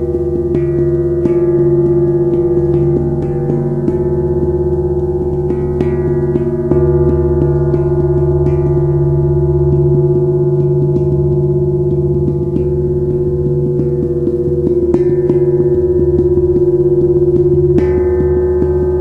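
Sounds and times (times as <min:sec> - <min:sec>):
iron plates struck like gongs: 0:00.0 - 0:19.0.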